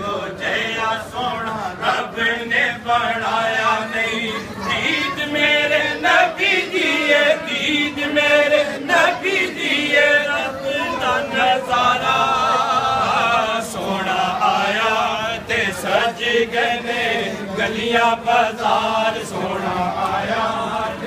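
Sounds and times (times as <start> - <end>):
men chanting in unison: 0.0 - 21.0.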